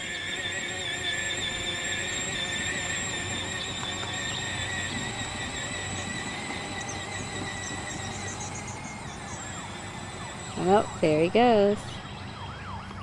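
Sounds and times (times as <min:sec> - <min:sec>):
toy tractor motor whine: 0:00.0 - 0:13.0.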